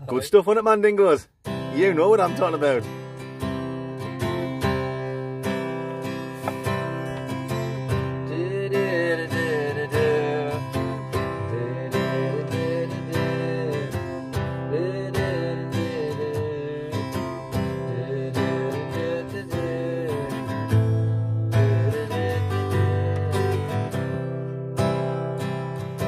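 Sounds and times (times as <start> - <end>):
acoustic guitar strumming: 0.3 - 26.0.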